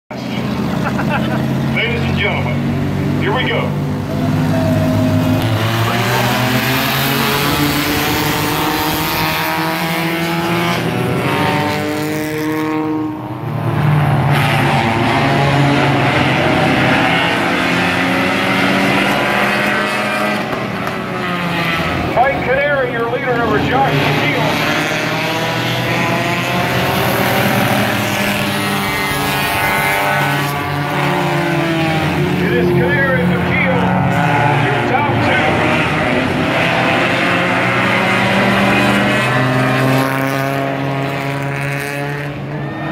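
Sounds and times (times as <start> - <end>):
race car engines accelerating: 0.1 - 42.9.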